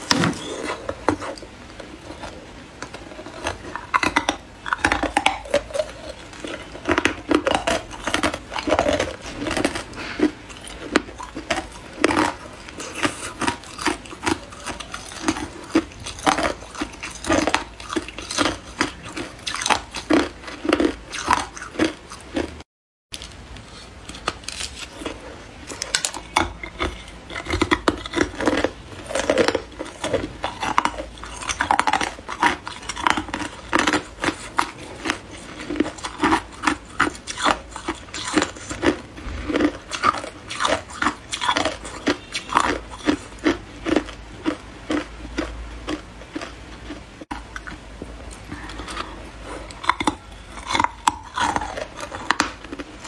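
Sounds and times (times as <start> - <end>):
teeth crunching ice: 0.0 - 22.6, 24.1 - 53.0.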